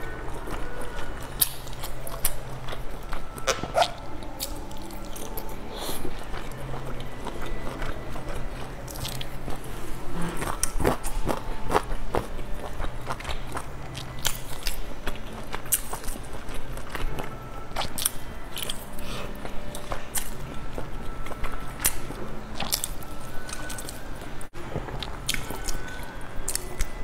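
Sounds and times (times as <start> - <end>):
close chewing: 0.0 - 27.0.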